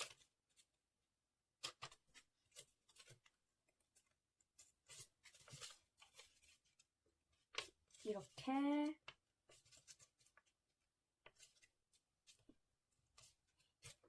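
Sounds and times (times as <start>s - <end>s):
paper rustling and crinkling: 0.0s - 0.8s, 1.6s - 14.0s.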